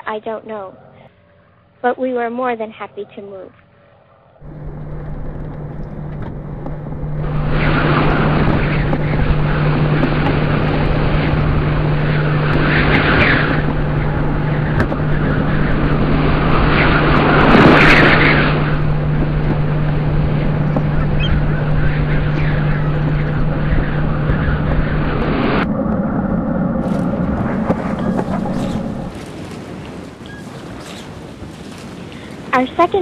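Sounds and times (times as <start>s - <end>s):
low engine drone: 0.0s - 31.0s
rushing noise: 3.8s - 33.0s.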